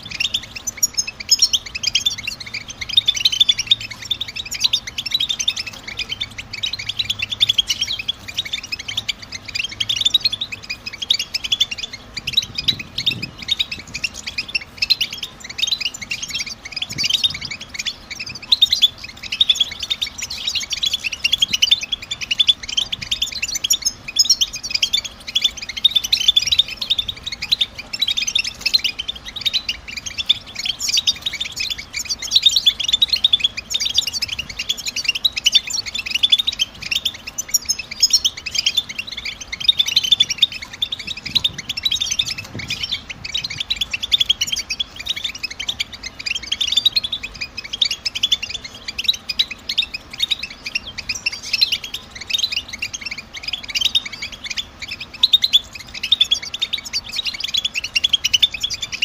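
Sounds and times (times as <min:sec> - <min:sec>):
goldfinch twittering: 0:00.0 - 0:59.0.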